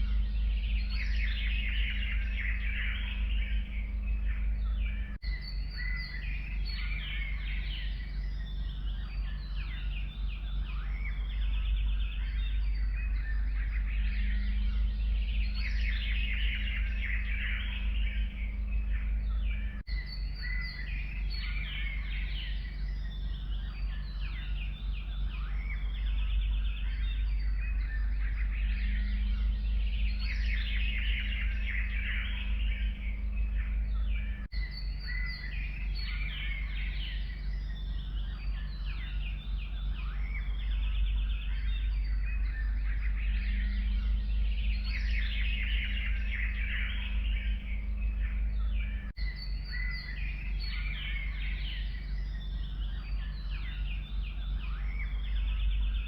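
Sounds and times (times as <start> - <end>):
forest birds singing: 0.0 - 56.0
low rumble: 0.0 - 56.0.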